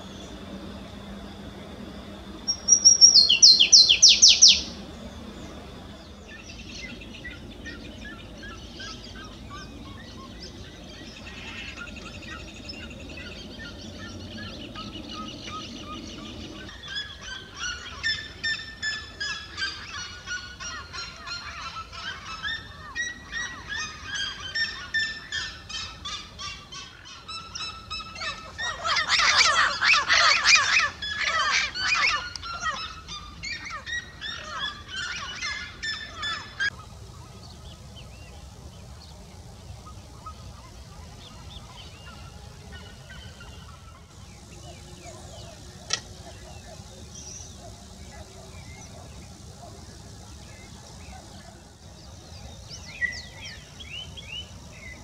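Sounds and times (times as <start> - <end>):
warbler singing: 0.0 - 55.0
bird yelping calls: 2.5 - 4.8, 6.3 - 37.8, 39.8 - 55.0.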